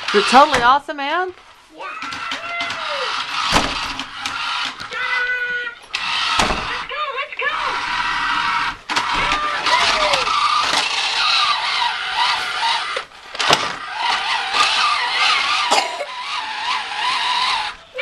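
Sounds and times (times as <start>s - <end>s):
toy car electric motor whirring: 0.0s - 0.7s, 1.8s - 18.0s.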